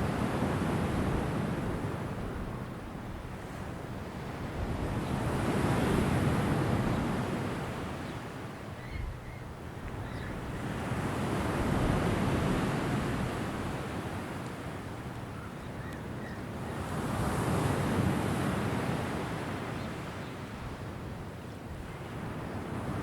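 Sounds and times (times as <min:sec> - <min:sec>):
ocean waves washing onto shore: 0:00.0 - 0:08.9, 0:09.5 - 0:23.0.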